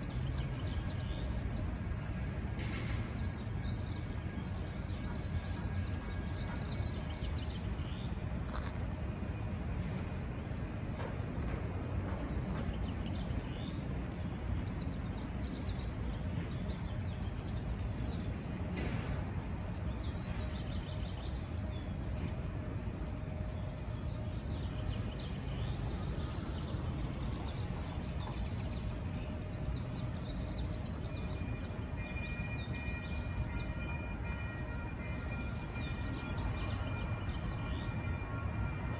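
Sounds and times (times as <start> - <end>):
street noise rumble: 0.0 - 38.9.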